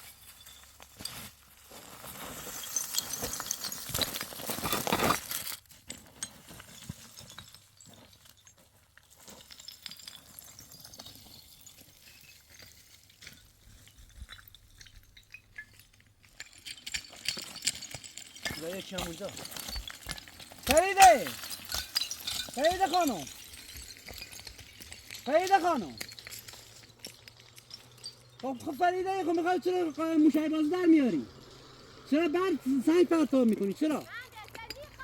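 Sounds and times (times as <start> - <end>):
loose stones clattering: 0.0 - 35.0.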